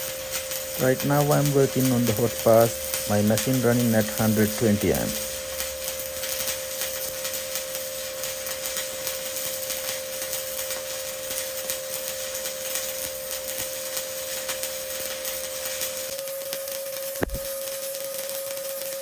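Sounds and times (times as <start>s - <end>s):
constant high hum: 0.0s - 16.6s
welding arc crackling: 0.0s - 19.0s.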